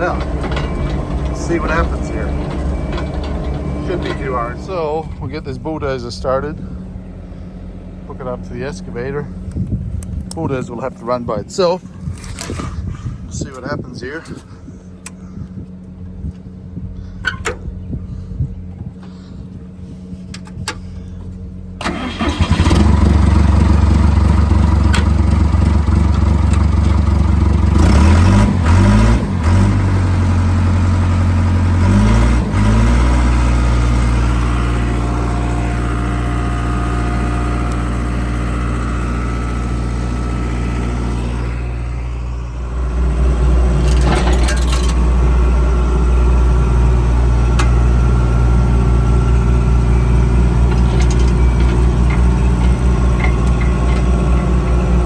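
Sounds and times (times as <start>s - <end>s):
loud diesel engine running hard: 0.0s - 11.4s, 21.8s - 55.0s
diesel engine running quietly: 0.0s - 55.0s.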